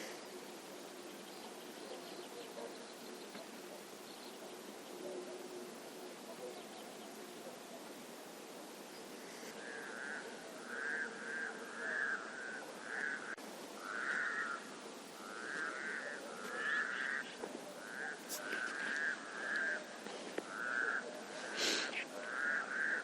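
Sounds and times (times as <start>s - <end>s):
faint background hiss: 0.0s - 23.0s
frogs croaking: 0.0s - 23.0s.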